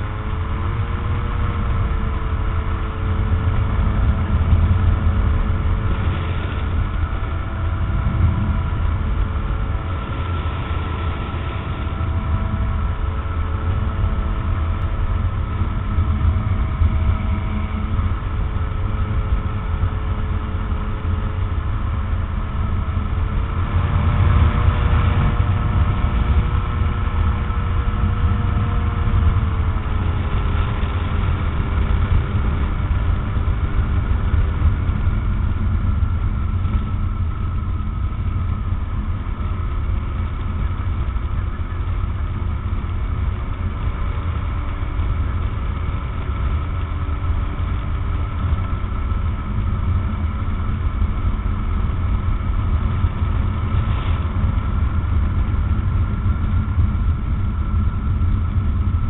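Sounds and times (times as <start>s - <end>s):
aircraft engine and propeller: 0.0s - 59.0s
wind rumble on microphone: 0.0s - 59.0s.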